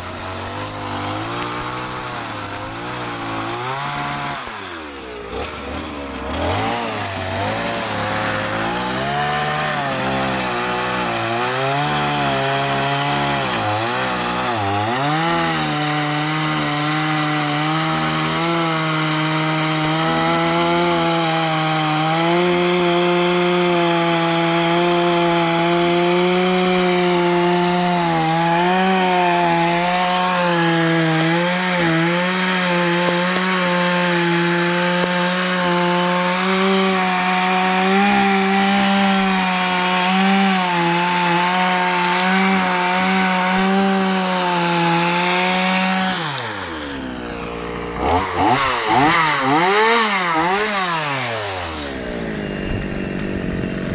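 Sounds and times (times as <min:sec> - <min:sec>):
chainsaw cutting tree trunk: 0:00.0 - 0:53.9.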